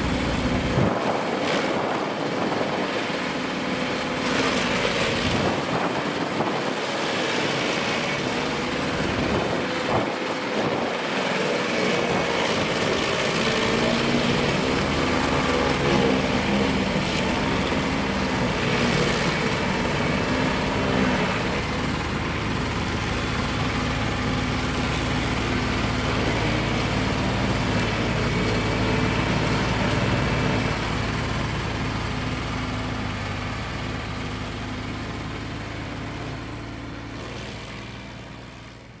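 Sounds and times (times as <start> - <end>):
machine engine running: 0.0 - 39.0.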